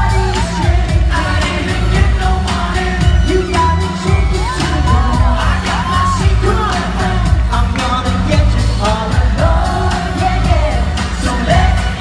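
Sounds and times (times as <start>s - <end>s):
male vocals singing: 0.0s - 12.0s
pop backing track with bass: 0.0s - 12.0s.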